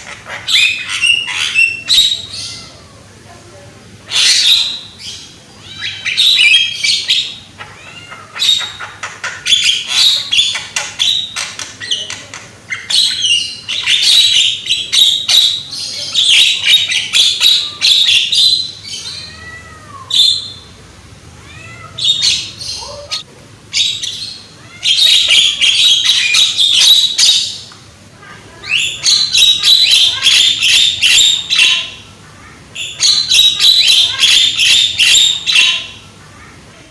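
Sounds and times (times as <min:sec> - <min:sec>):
myna chattering squawks: 0:00.0 - 0:03.1, 0:04.0 - 0:20.7, 0:21.5 - 0:36.9.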